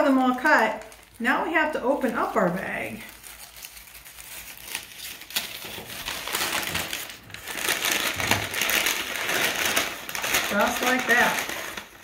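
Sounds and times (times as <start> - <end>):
paper bag rustling: 0.0 - 12.0.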